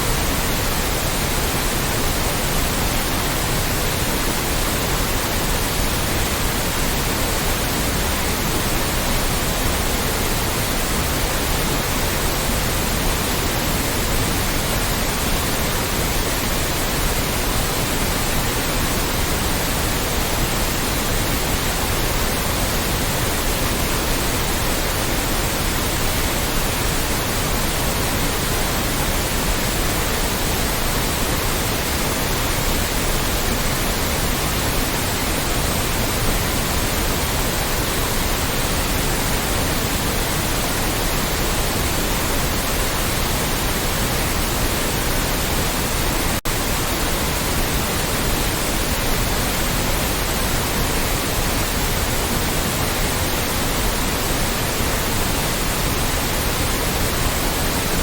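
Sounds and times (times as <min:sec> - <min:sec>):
loud white noise hiss: 0:00.0 - 0:58.0.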